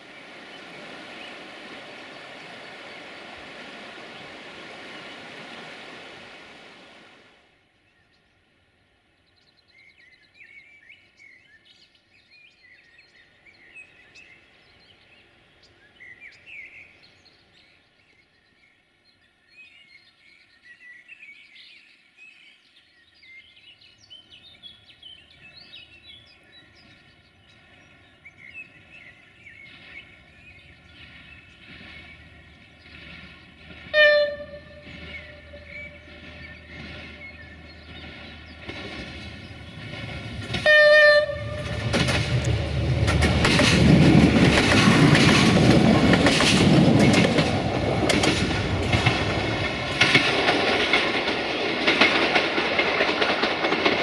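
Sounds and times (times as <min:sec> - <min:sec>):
songbirds chirping: 0:00.0 - 0:06.9, 0:07.6 - 0:54.0.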